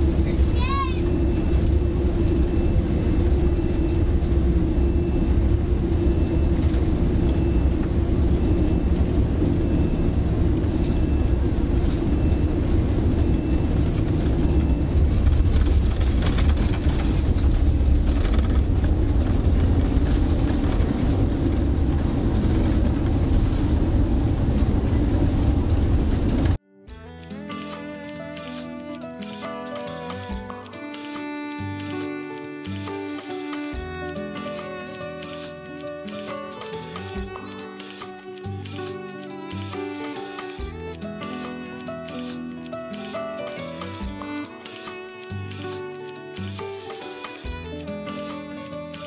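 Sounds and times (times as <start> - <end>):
aircraft cabin rumble: 0.0 - 26.6, 27.4 - 49.0.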